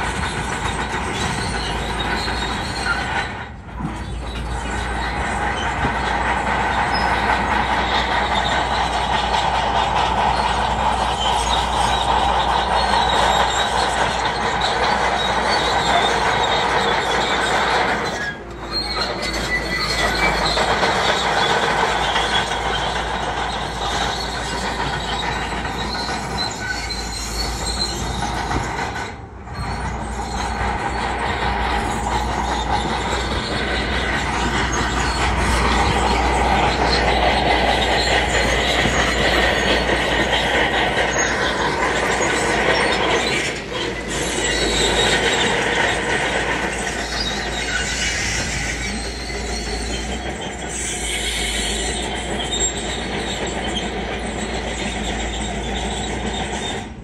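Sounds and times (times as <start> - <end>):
diesel engine running: 0.0 - 56.4
machinery clatter: 0.0 - 57.0
metallic squeal: 0.1 - 57.0.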